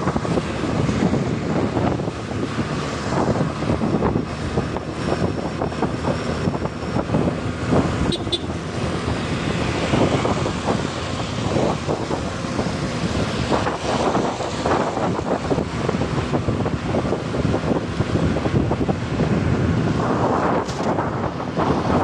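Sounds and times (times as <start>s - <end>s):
traffic and engines: 0.0s - 22.0s
wind buffeting microphone: 0.0s - 22.0s.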